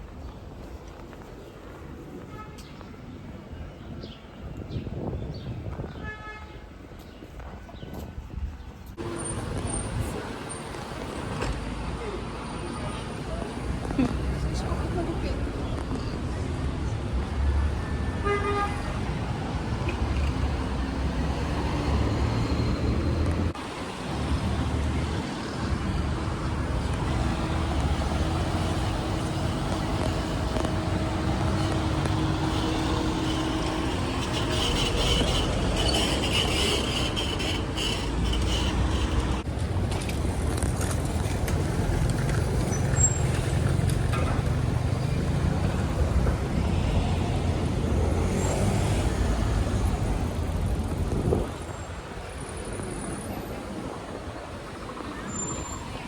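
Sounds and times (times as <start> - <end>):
city traffic passing: 0.0 - 56.0.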